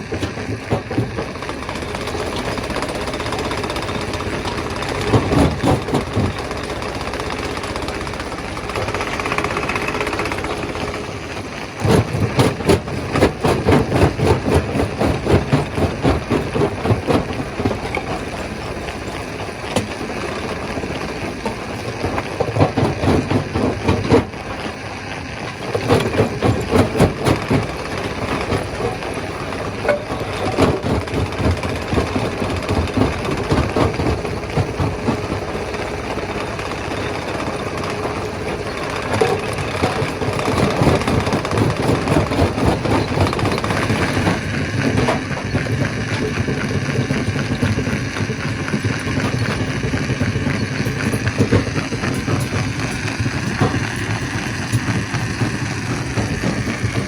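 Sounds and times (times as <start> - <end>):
rapid rattling knocks: 0.0 - 57.0
stone crusher running: 0.0 - 57.0.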